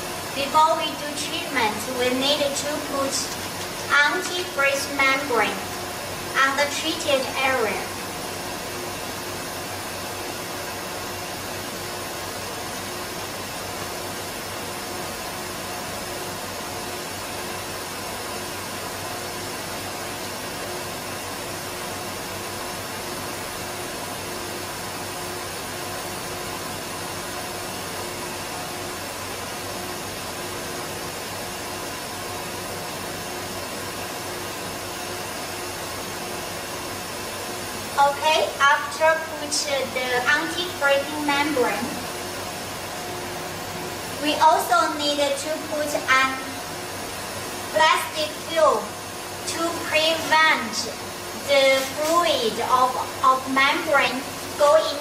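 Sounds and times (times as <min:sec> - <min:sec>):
cooling fan whirring: 0:00.0 - 0:55.0
faint steady hum: 0:00.0 - 0:55.0.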